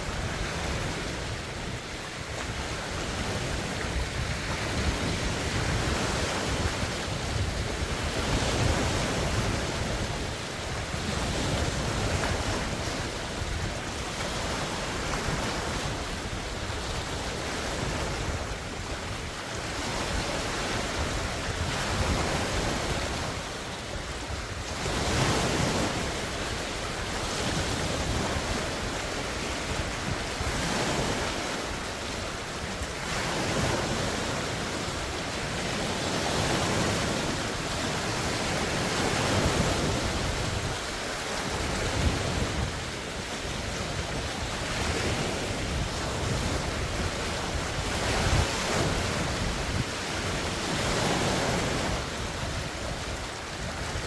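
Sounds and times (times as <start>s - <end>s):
waves breaking on shore: 0.0s - 54.0s
wind buffeting microphone: 0.0s - 54.0s.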